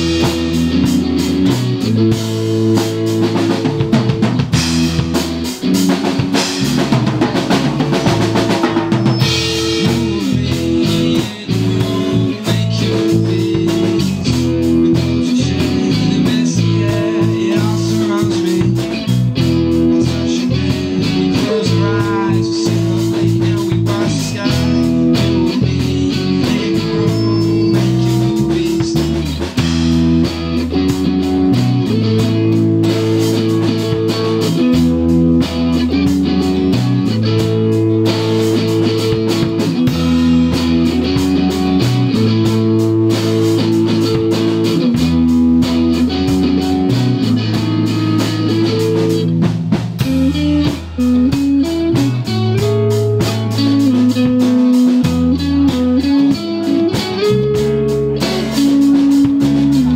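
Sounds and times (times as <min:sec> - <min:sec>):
electric guitar: 0:00.0 - 0:59.9
rock band playing: 0:00.0 - 0:59.9.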